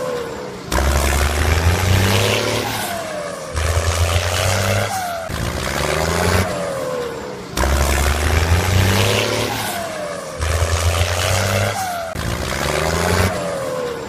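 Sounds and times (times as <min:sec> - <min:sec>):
engine revving with falling whine: 0:00.0 - 0:14.0.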